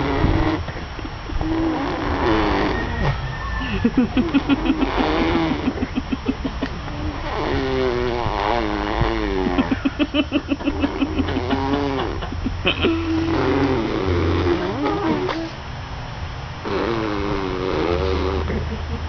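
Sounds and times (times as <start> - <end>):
person making mouth buzzing noises: 0.0 - 15.6, 16.6 - 18.9.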